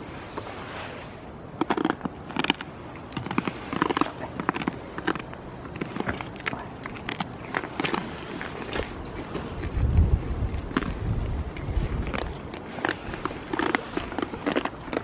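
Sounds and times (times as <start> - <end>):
goats crunching treats: 1.5 - 15.0.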